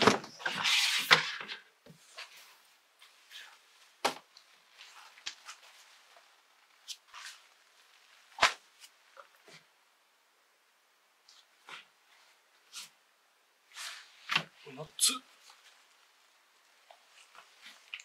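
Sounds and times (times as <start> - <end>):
folded clothes rustling: 0.0 - 9.9, 11.2 - 13.0, 13.6 - 18.0.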